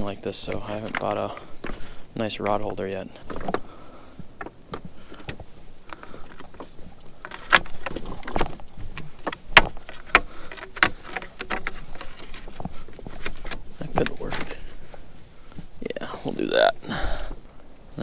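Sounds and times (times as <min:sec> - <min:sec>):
loose rocks shifting: 0:00.0 - 0:18.0.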